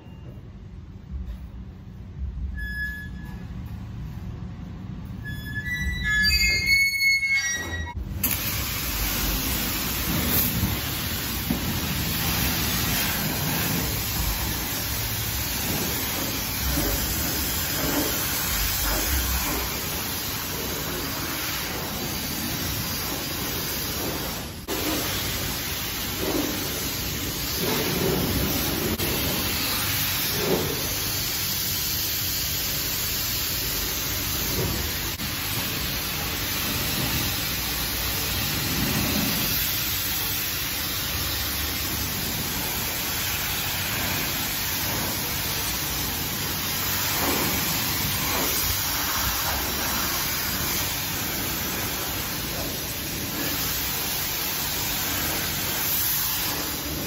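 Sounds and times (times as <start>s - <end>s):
pressure washer spraying car: 6.0s - 57.0s.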